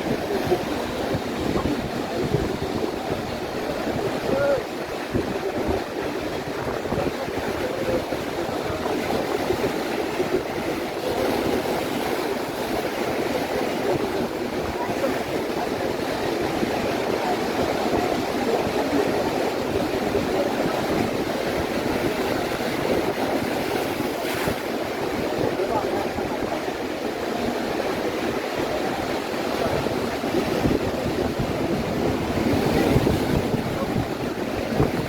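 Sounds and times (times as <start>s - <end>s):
surf breaking on beach: 0.0s - 35.0s.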